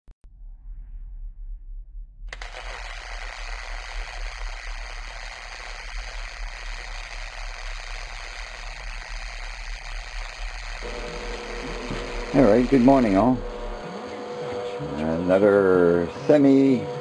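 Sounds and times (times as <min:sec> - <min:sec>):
low hum: 0:00.2 - 0:17.0
steady hiss: 0:02.4 - 0:16.8.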